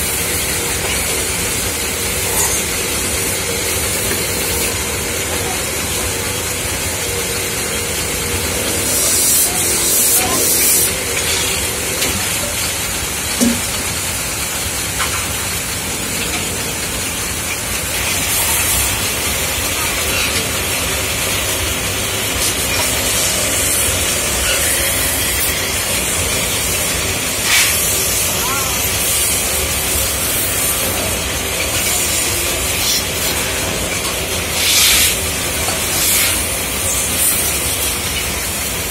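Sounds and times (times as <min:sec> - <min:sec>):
lathe spinning metal pot: 0:00.0 - 0:38.9.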